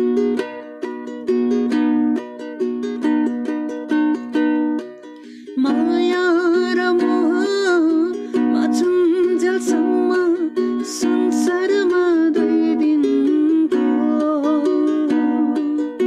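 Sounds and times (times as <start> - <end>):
strummed ukulele: 0.0 - 16.0.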